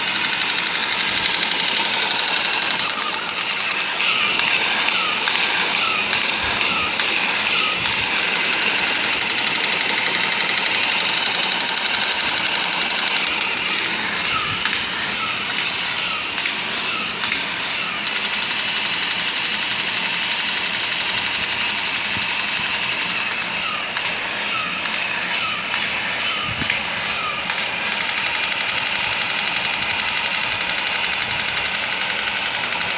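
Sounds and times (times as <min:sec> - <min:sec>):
toy motor whirring and rattling: 0:00.0 - 0:32.9.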